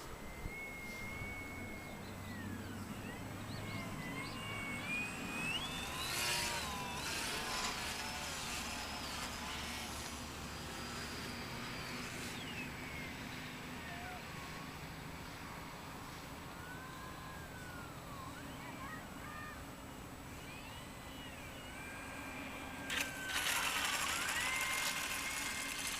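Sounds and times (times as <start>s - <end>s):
model airplane motor whining: 0.0s - 25.9s.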